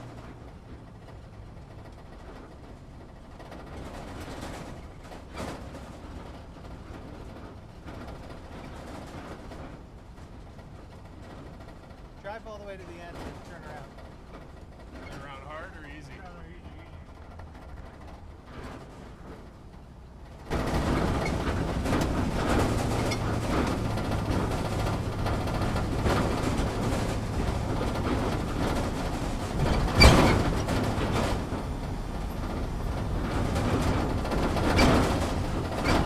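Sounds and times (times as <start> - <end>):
heavy vehicle jolt: 0.0 - 36.0
vehicle body rattling and knocking: 0.0 - 36.0
vehicle engine hum: 0.0 - 36.0.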